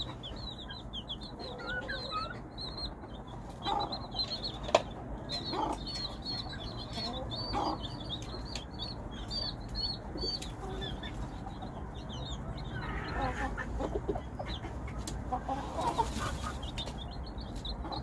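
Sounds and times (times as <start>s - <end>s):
chicks peeping: 0.0s - 18.0s
hen clucking: 0.0s - 18.0s.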